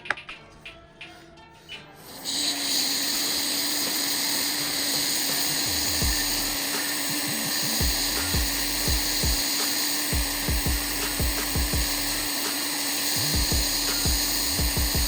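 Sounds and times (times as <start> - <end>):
blower airflow hiss and hum: 2.0 - 15.0.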